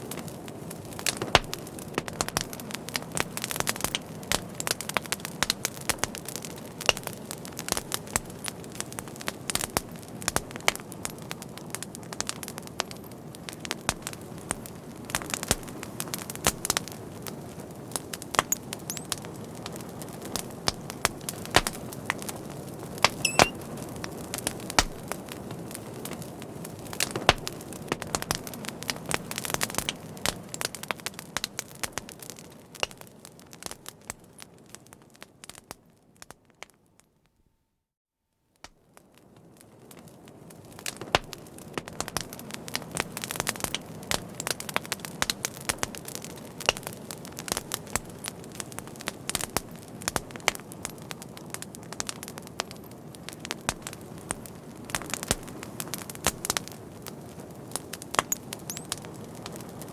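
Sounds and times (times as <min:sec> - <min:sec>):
fire crackling and popping: 0:00.0 - 0:37.1, 0:38.6 - 0:59.9.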